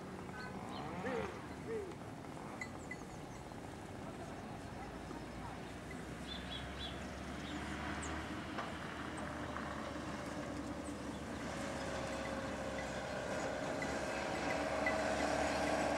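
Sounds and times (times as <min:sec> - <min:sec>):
distant motor humming: 0:00.0 - 0:15.9.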